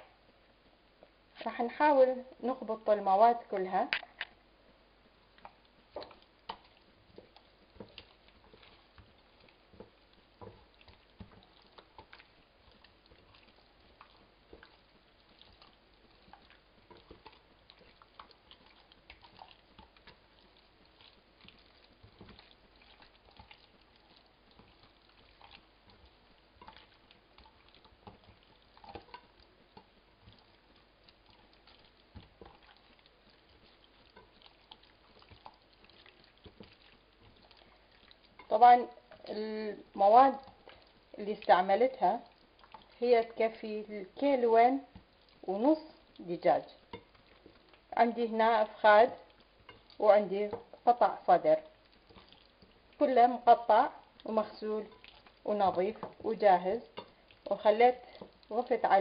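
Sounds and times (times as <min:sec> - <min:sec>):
wet squelches of kneading chicken: 0:00.2 - 0:59.0.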